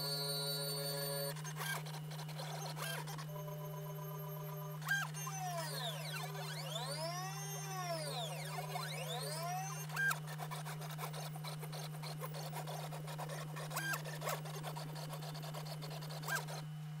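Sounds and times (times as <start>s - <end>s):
stepper motor hum and ticking: 0.0s - 16.6s
stepper motor whines: 0.0s - 16.8s.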